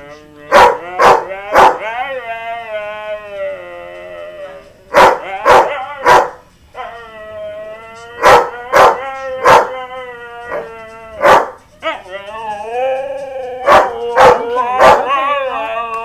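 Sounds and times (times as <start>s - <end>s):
dog howling: 0.0s - 16.0s.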